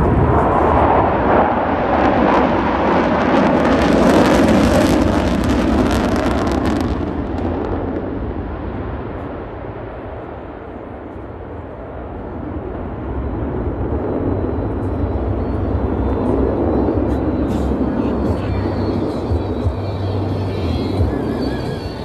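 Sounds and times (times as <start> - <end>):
jet roar passing overhead: 0.0 - 22.0.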